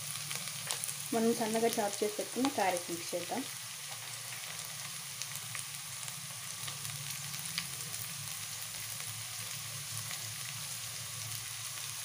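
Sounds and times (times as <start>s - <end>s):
vegetables sizzling in ghee: 0.0s - 12.0s.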